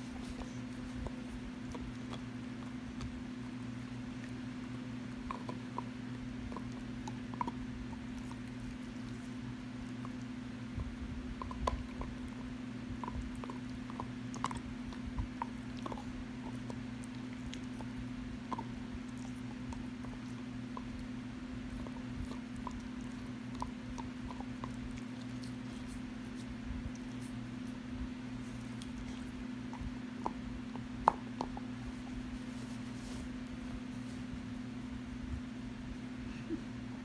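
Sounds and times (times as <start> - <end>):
dog gnawing on a bone: 0.0 - 34.2
steady low hum: 0.0 - 37.0.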